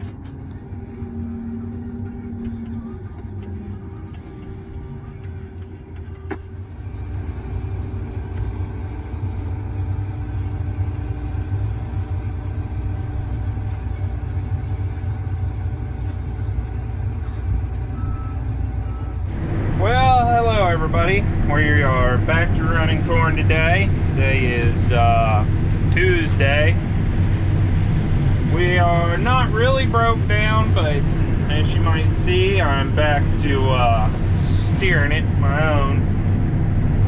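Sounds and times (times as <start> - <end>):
combine engine running: 0.0 - 37.0.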